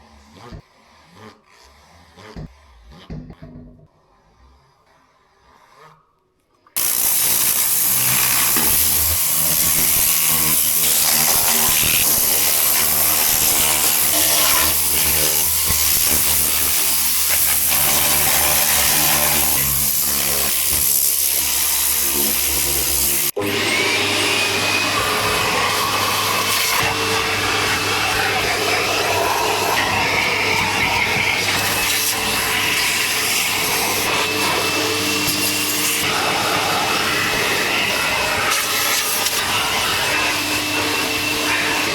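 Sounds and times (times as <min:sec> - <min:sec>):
electric motor humming and hissing: 0:06.8 - 0:41.9
machine running: 0:06.8 - 0:41.9.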